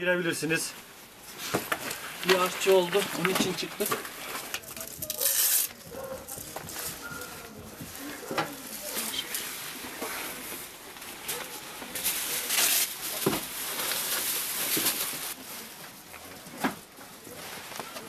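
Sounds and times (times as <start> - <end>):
foil blanket crinkling: 0.8 - 18.0.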